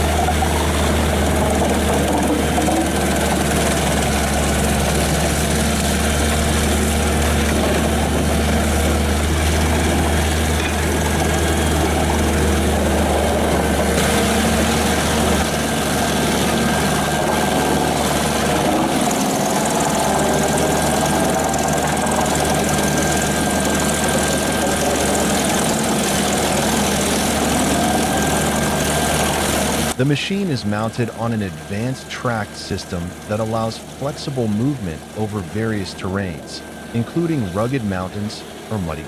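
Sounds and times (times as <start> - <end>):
faint steady whine: 0.0 - 39.0
wood chipper engine hum: 0.0 - 39.0.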